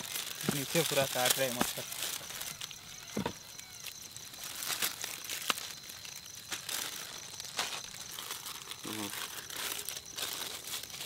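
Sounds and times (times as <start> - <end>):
foil pouches crinkling: 0.0 - 11.0.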